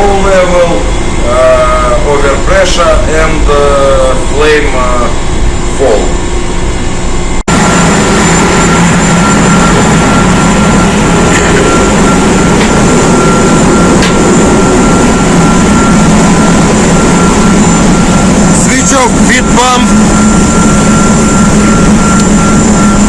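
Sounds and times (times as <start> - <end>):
engine room machinery hum: 0.0 - 23.0
high machinery whine: 0.0 - 23.0.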